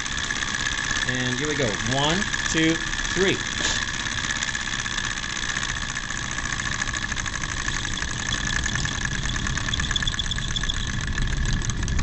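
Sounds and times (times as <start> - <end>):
stirling engine whirring and ticking: 0.0 - 12.0.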